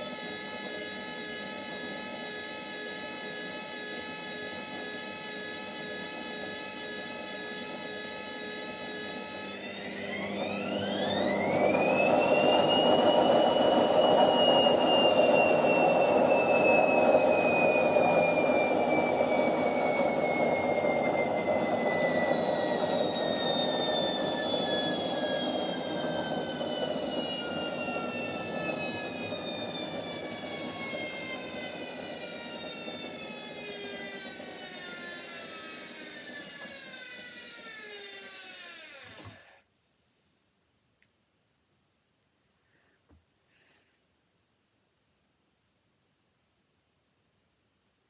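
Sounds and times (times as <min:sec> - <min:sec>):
washing machine motor whine: 0:00.0 - 0:39.6.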